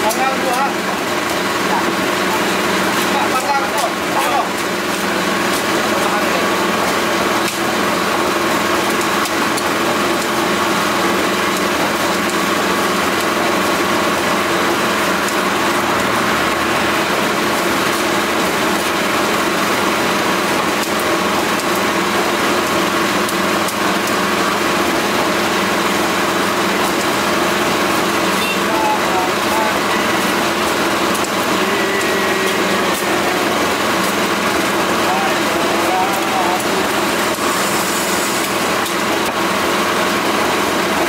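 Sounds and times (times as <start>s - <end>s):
machine droning: 0.0s - 41.0s.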